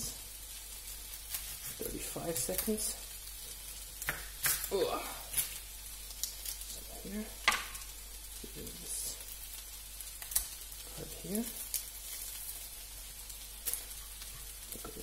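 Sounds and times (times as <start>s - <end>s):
onion sizzling in frying pan: 0.0s - 15.0s.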